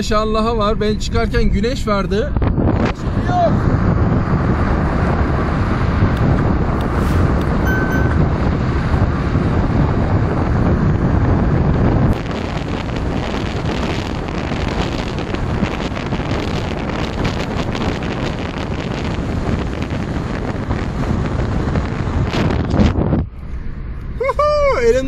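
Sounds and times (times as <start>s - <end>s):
tyre and road noise: 0.0s - 25.0s
wind buffeting microphone: 0.0s - 25.0s.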